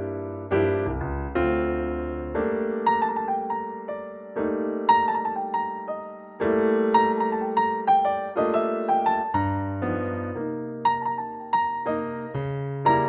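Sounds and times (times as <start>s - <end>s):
solo piano playing chords: 0.0s - 13.0s.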